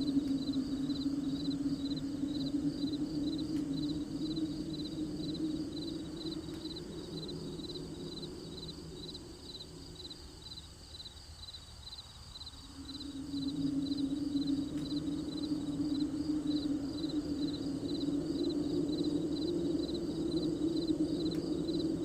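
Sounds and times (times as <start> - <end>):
low hum: 0.0 - 10.8, 12.6 - 22.0
crickets chirping: 0.0 - 22.0.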